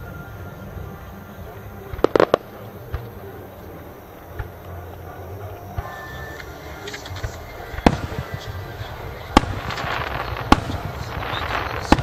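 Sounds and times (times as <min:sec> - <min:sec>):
fireworks crackle: 0:00.0 - 0:12.0
fireworks shells bursting: 0:01.9 - 0:12.0.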